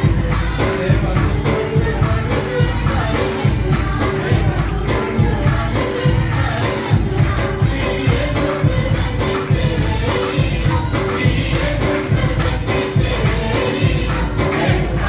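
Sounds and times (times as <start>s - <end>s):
music with a steady beat: 0.0s - 15.0s
women singing through microphones: 0.0s - 15.0s.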